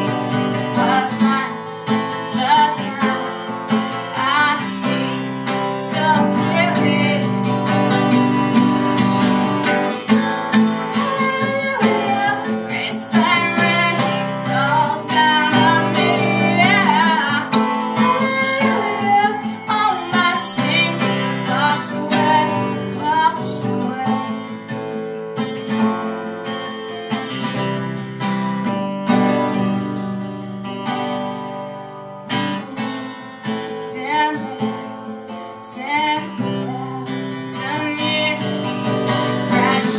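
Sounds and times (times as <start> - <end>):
woman singing: 0.0 - 25.0, 32.3 - 39.9
strummed acoustic guitar: 0.0 - 39.9.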